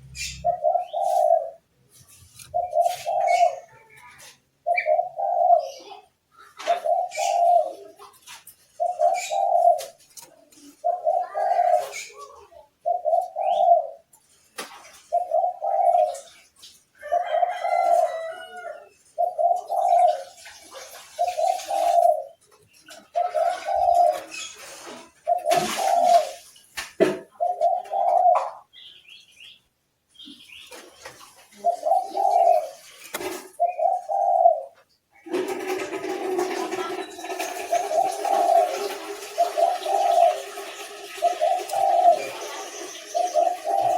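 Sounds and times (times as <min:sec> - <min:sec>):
bird cooing: 0:00.0 - 0:01.6, 0:02.5 - 0:14.1, 0:15.1 - 0:16.4, 0:17.0 - 0:20.4, 0:21.0 - 0:24.3, 0:25.2 - 0:26.4, 0:27.2 - 0:28.7, 0:31.5 - 0:32.8, 0:33.4 - 0:43.9.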